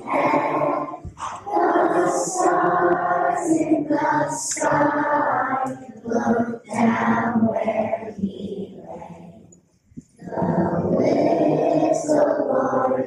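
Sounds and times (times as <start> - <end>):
children singing: 0.0 - 9.5, 10.1 - 13.0.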